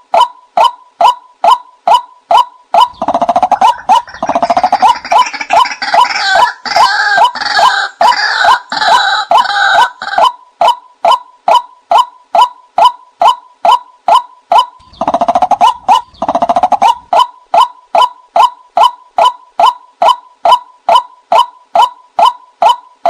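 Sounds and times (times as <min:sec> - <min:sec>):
rough overlapping croaking calls: 0:00.0 - 0:23.0
waterhen kwak calls: 0:00.2 - 0:22.8.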